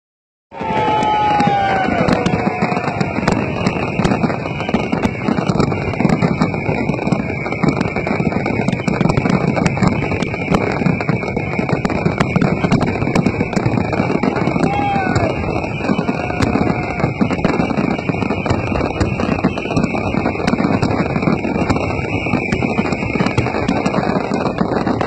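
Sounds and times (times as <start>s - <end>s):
fireworks booming bursts: 0.5s - 25.0s
fireworks crackling pops: 0.5s - 25.0s.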